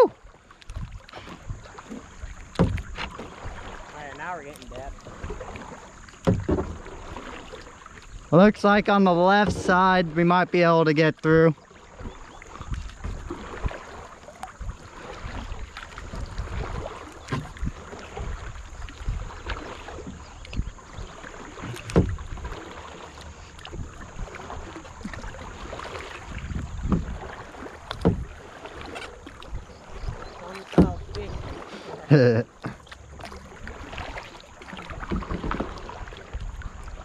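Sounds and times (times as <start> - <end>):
paddle strokes splashing: 0.0 - 37.0.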